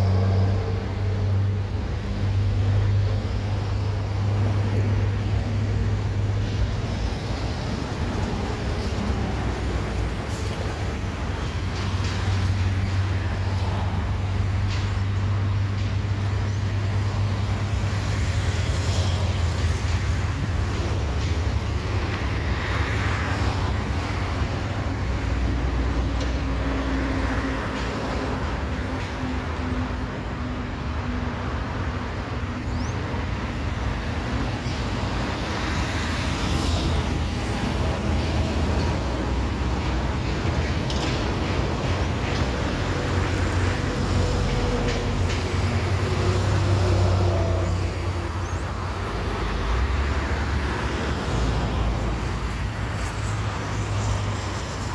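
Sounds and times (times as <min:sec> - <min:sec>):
passing vehicles: 0:00.0 - 0:54.9.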